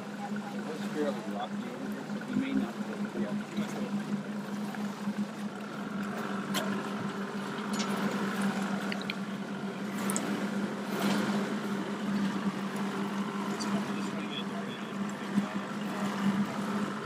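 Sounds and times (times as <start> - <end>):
outboard motor idling: 0.0 - 17.0
water lapping against hull: 0.0 - 17.0.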